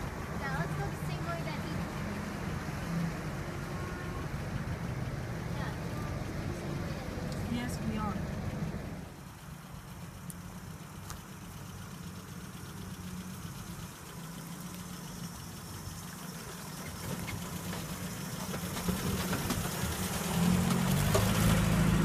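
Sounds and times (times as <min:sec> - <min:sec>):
truck engine running at low revs: 0:00.0 - 0:22.0.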